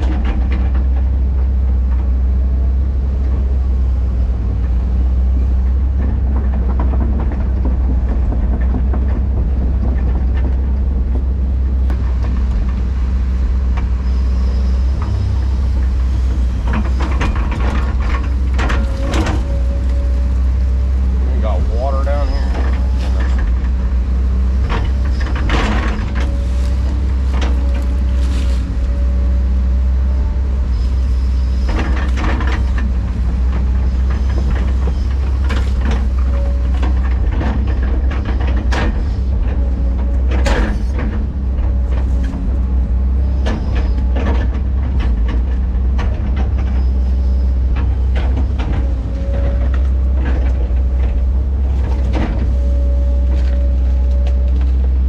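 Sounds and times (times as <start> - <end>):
diesel machine engine running: 0.0 - 55.0.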